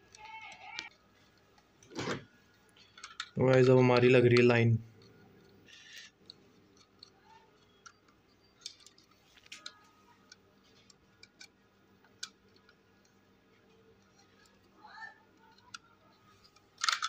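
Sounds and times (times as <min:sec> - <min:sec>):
faint plastic and metal clicks: 0:00.1 - 0:02.0, 0:02.6 - 0:17.0.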